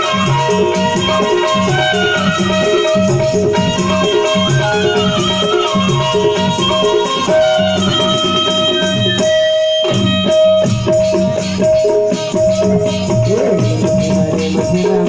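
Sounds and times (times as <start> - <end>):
hand drums: 0.0 - 15.0.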